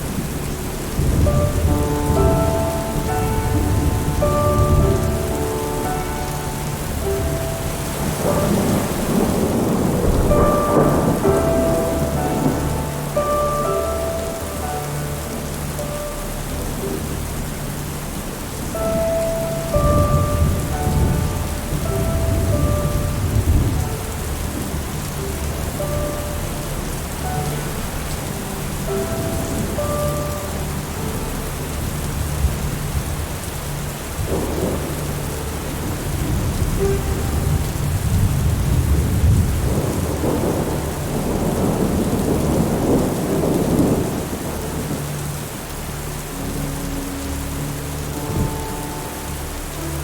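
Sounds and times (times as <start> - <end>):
low rolling thunder: 0.0 - 50.0
soft held music notes: 0.0 - 50.0
steady rain: 0.0 - 50.0.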